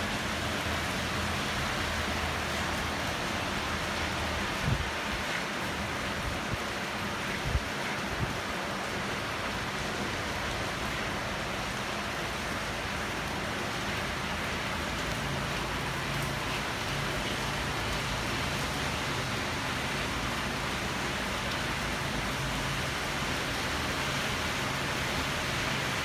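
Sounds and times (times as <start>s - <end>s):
heavy rain on leaves and roofs: 0.0s - 26.0s.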